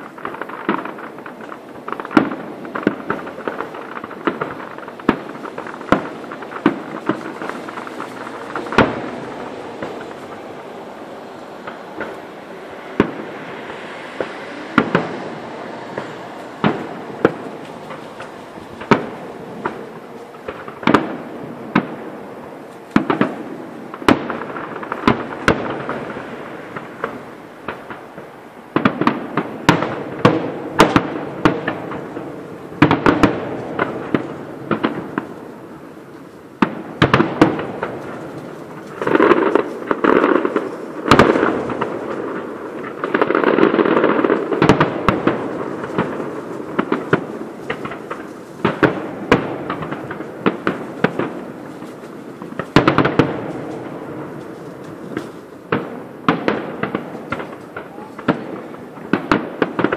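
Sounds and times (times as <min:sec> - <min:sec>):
fireworks bursting with sharp bangs: 0:00.0 - 0:59.9.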